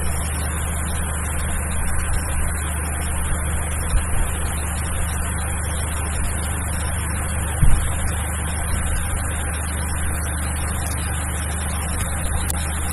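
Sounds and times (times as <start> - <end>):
low hum with hiss: 0.0 - 12.9.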